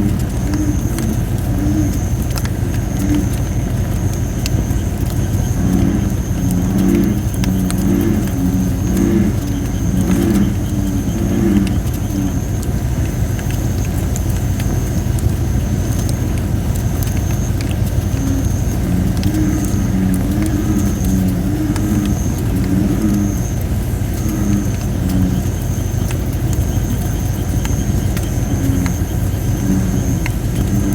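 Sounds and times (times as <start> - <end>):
damp wood hissing: 0.0 - 26.6
bullfrogs croaking: 0.0 - 30.9
campfire crackling: 0.0 - 30.9
low rumble: 0.0 - 30.9.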